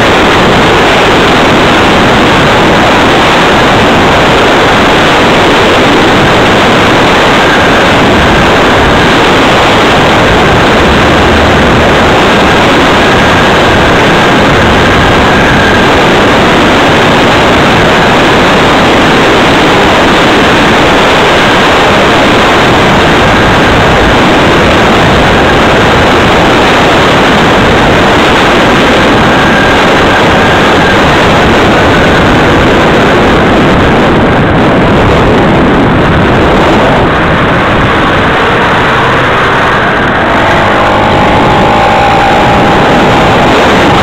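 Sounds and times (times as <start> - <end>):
wind rush on microphone: 0.0 - 44.0.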